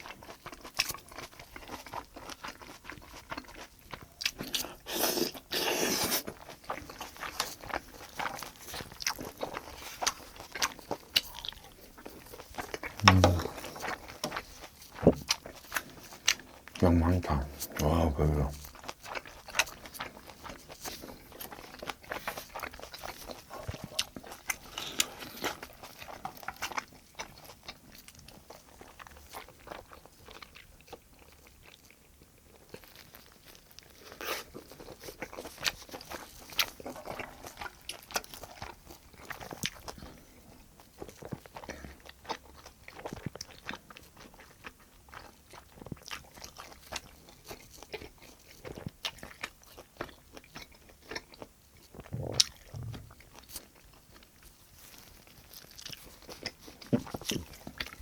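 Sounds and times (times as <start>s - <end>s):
mouth chewing and crunching: 0.0s - 58.0s.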